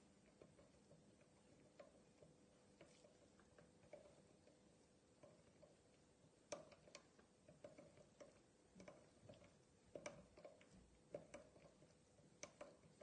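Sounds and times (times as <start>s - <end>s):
small metal clicks and ticks: 0.0s - 13.0s.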